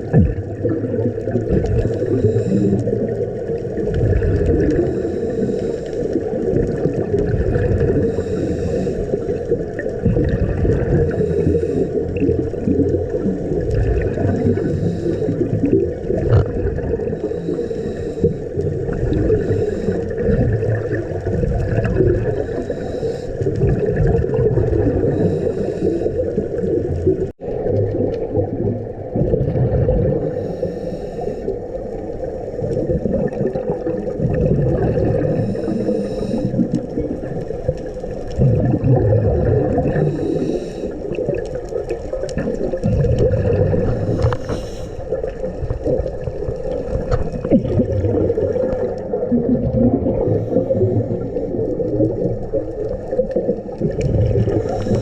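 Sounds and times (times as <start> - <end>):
muffled underwater rumble: 0.0 - 55.0
scuba exhaust bubbles: 0.0 - 55.0.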